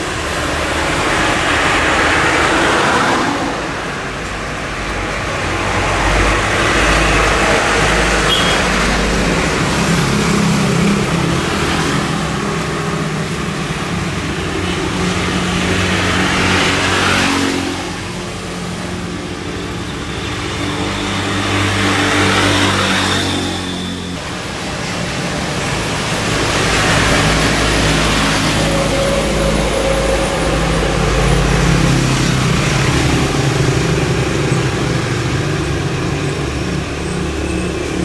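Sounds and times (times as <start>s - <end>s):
tyres on wet road: 0.0s - 38.0s
vehicle engines passing: 0.0s - 38.0s.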